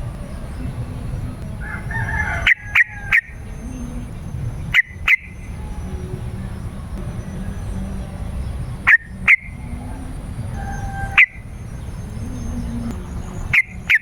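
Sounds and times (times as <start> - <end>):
bird warbling: 0.0 - 14.0.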